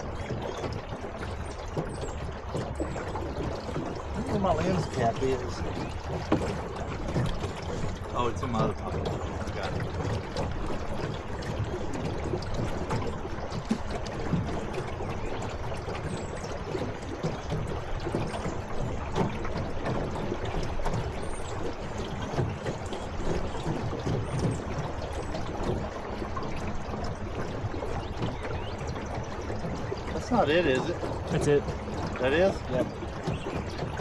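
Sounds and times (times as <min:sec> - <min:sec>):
small water splashes: 0:00.0 - 0:34.0
water rushing and trickling: 0:00.0 - 0:34.0.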